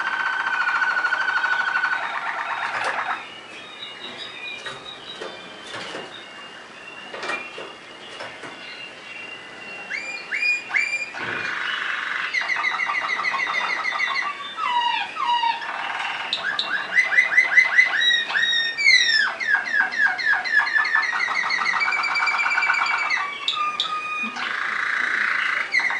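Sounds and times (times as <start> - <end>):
canary singing trills: 0.0 - 25.9.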